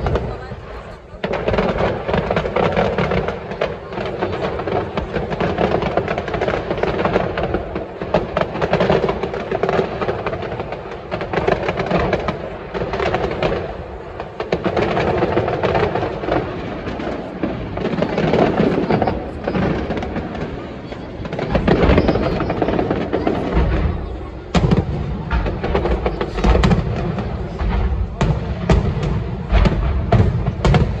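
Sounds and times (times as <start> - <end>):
distant firework bangs and crackling: 0.0 - 31.0.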